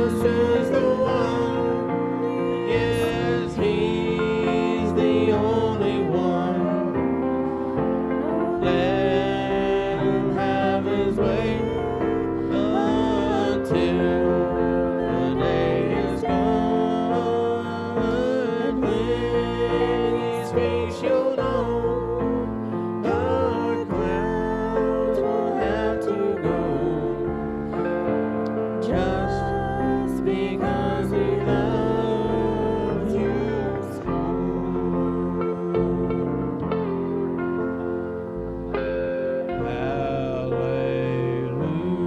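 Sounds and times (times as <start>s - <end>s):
gospel church music: 0.0s - 42.0s.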